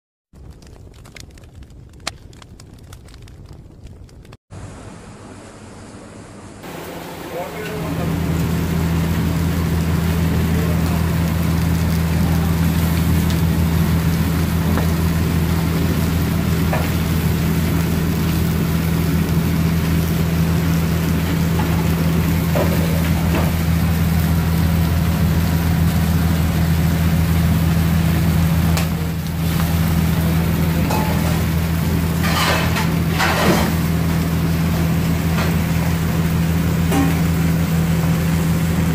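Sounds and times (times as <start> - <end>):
low mechanical hum: 4.5 - 38.9
fish sizzling on a grill: 6.7 - 38.9.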